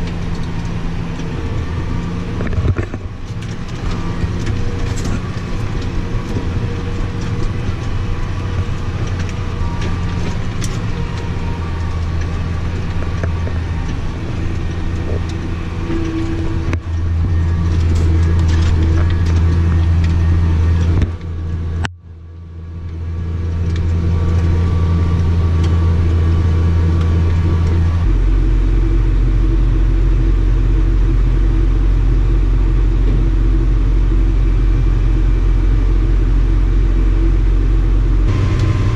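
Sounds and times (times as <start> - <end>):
farm machinery engine running: 0.0 - 38.9.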